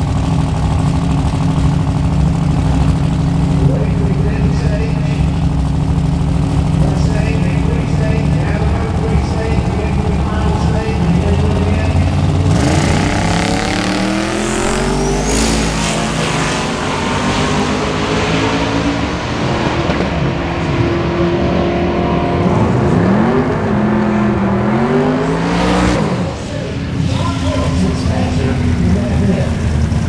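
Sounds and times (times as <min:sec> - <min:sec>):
drag cars accelerating hard: 0:00.0 - 0:30.0.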